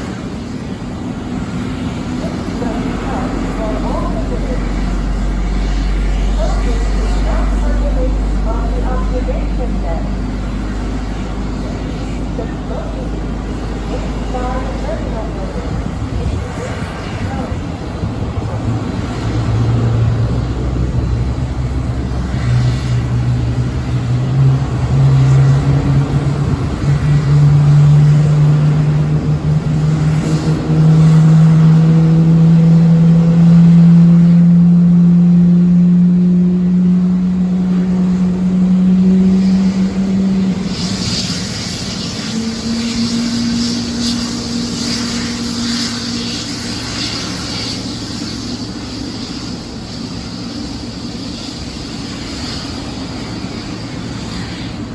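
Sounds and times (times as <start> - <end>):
strong hiss: 0.0 - 32.0, 37.4 - 54.9
jet engines whining: 0.0 - 54.9.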